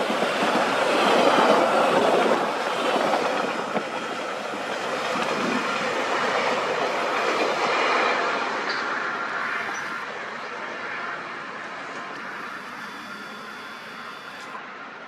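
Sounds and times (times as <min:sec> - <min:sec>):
train wheels on rails: 0:00.0 - 0:14.6.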